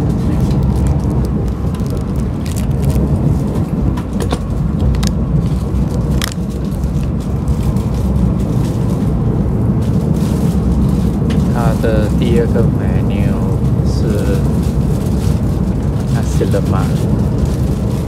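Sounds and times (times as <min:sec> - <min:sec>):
electric train rumble: 0:00.0 - 0:18.0.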